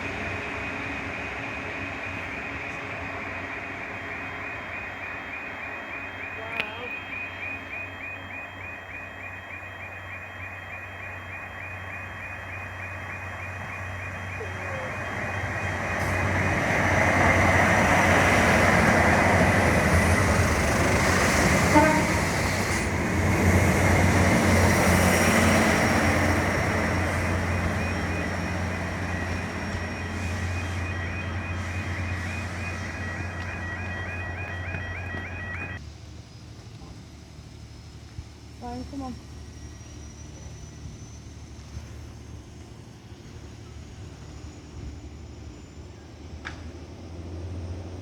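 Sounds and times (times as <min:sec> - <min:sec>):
train passing: 0:00.0 - 0:48.0.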